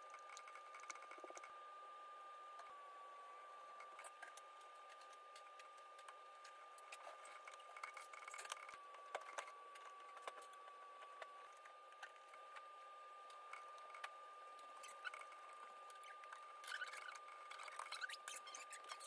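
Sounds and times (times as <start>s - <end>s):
faint steady high whine: 0.0s - 19.0s.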